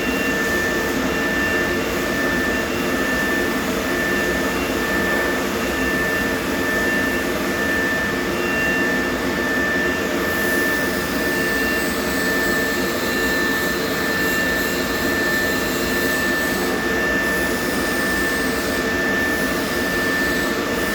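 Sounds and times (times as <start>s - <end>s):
motor humming with high whine: 0.0s - 20.9s.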